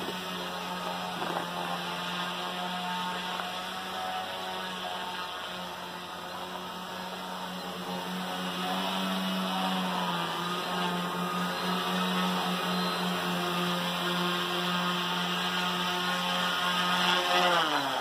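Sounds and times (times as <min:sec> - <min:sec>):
drone motors buzzing: 0:00.0 - 0:18.0.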